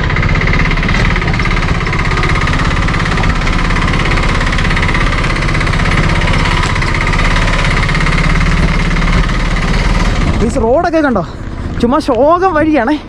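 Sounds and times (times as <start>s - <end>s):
auto rickshaw engine pulsing: 0.0s - 13.0s.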